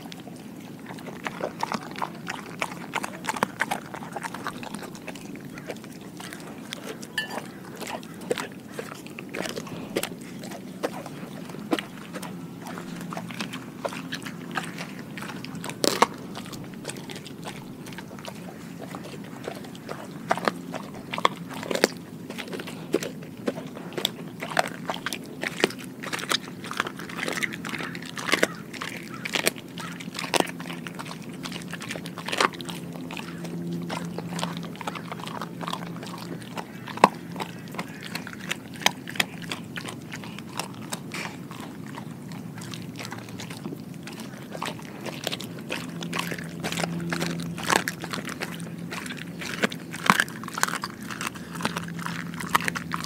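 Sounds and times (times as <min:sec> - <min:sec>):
bones cracking: 0:00.0 - 0:53.0
dog chewing and crunching: 0:00.0 - 0:53.0.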